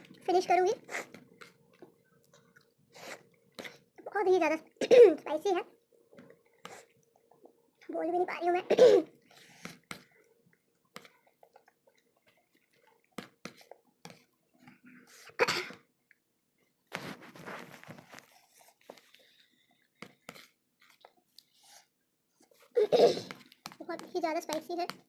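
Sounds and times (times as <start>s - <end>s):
person chewing and crunching food: 0.0s - 4.1s, 5.8s - 7.9s, 9.1s - 23.9s.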